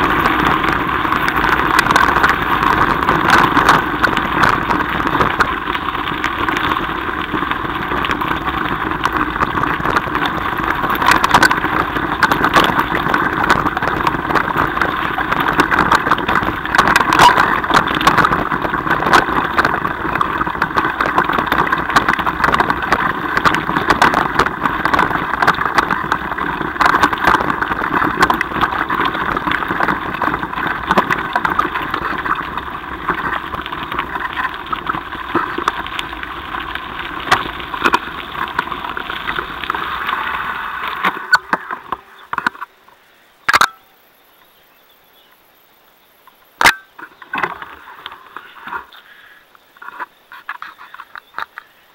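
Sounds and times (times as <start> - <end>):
bike rattling over stones: 0.0 - 42.8, 46.6 - 51.9
bike tyres crunching on gravel: 0.0 - 42.9, 46.6 - 51.9.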